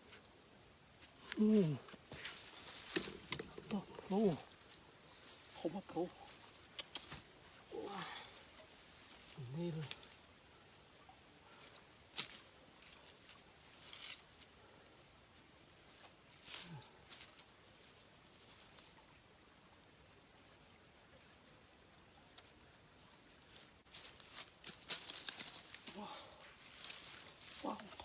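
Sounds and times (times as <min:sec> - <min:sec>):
high insect drone: 0:00.0 - 0:28.0.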